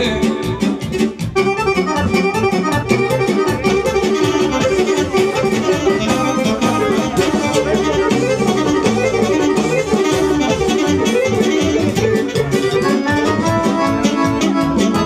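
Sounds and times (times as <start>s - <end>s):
folk dance music with accordion: 0.0s - 15.0s.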